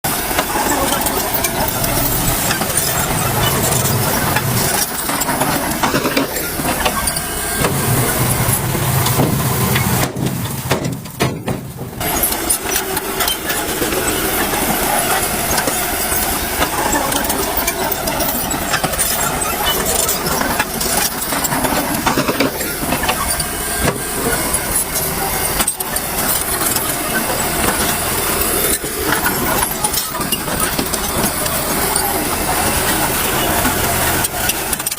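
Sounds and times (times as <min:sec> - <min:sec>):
dump truck engine running: 0:00.0 - 0:34.9
heavy construction noise: 0:00.0 - 0:34.9.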